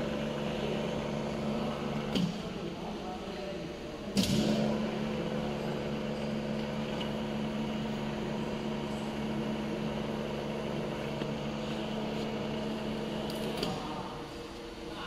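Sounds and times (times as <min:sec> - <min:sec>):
machine motor humming: 0:00.0 - 0:03.2, 0:03.9 - 0:15.0.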